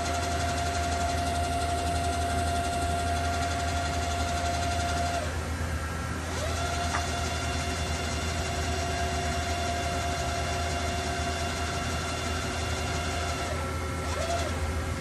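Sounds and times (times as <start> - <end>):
constant low hum: 0.0 - 15.0
machine whine: 0.0 - 15.0.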